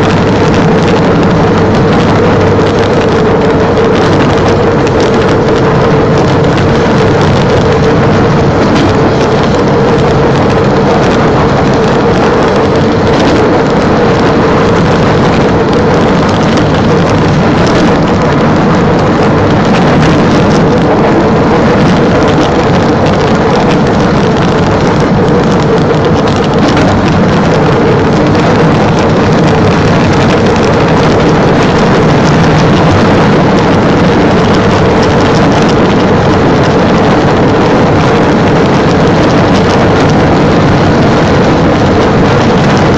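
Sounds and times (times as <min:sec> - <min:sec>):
rail vehicle engine hum: 0:00.0 - 0:42.9
wheels rolling on track: 0:00.0 - 0:42.9.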